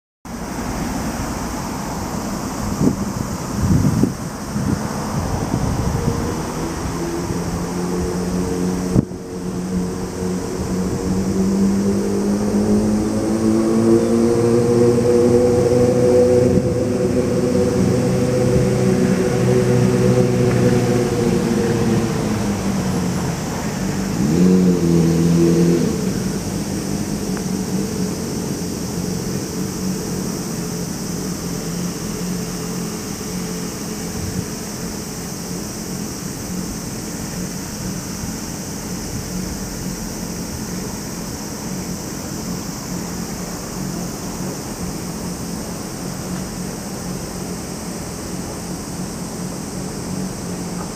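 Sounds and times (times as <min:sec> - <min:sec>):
distant vehicle motor drone: 0:00.3 - 0:50.9
electric train rumble: 0:00.3 - 0:50.9.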